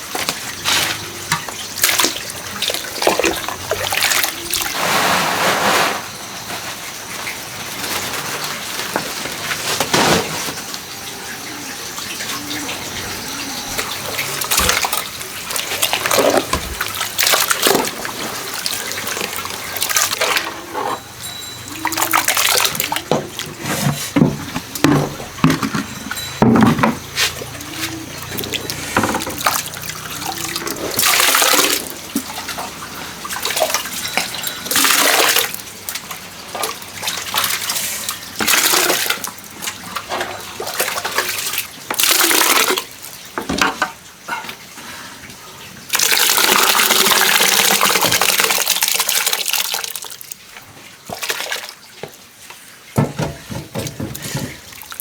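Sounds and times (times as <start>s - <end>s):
water splashing and pouring: 0.0s - 43.7s, 45.0s - 55.0s.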